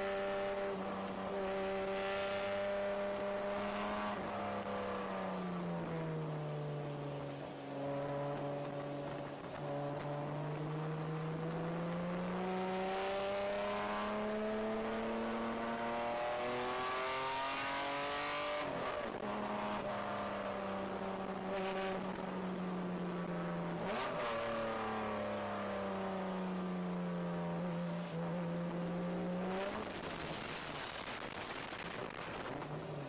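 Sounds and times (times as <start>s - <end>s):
race car engine: 0.0s - 33.0s.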